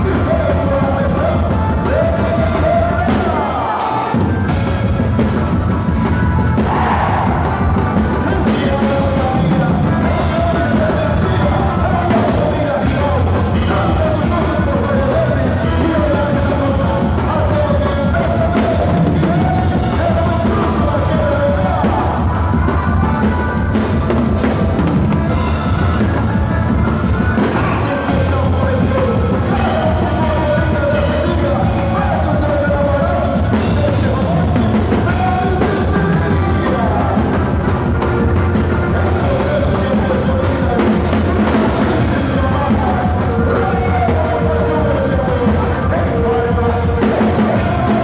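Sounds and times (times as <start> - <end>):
loud music with drum beat: 0.0 - 48.0
wavering melody line: 0.0 - 48.0.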